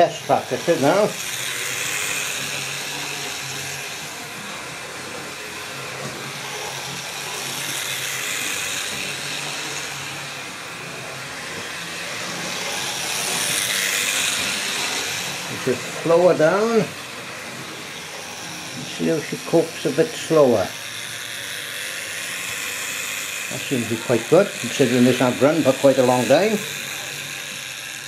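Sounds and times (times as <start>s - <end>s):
model train motor whirr and wheel rumble: 0.0s - 28.0s.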